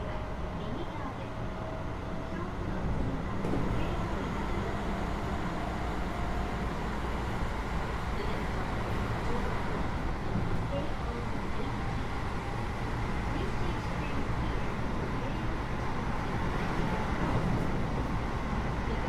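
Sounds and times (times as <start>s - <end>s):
train motors and wheels rumbling: 0.0s - 19.0s.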